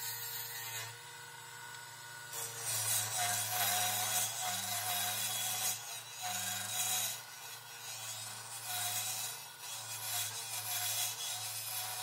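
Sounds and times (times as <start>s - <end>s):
turning tool shearing wood: 0.0s - 12.0s.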